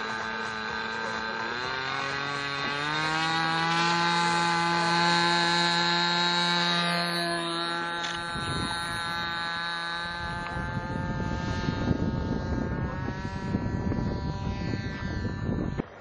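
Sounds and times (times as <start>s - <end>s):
model airplane engine whine: 0.0s - 16.0s
wind rumbling on microphone: 2.1s - 16.0s.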